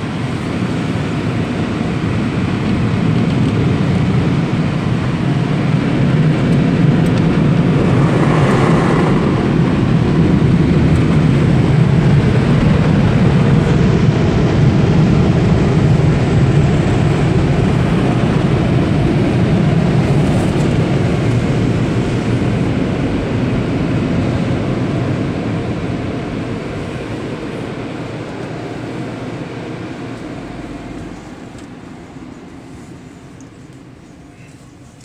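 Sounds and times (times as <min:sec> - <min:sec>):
car wash blower dryers: 0:00.0 - 0:35.0.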